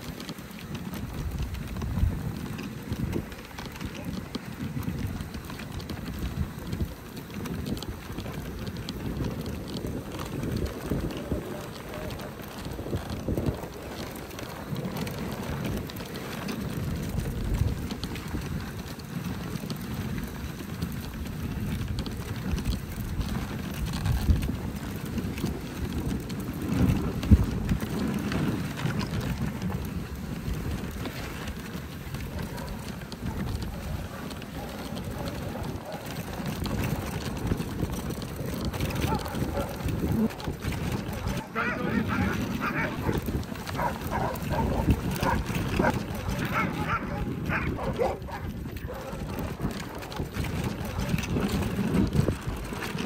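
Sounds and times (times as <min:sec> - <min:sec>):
sled runners scraping on snow: 0:00.0 - 0:53.0.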